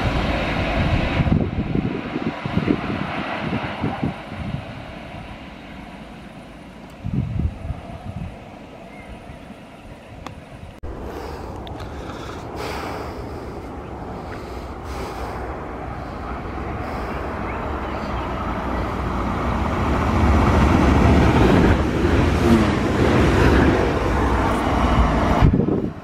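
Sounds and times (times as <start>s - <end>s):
electric train passing: 0.0s - 26.0s
train rumble and rail noise: 0.0s - 26.0s.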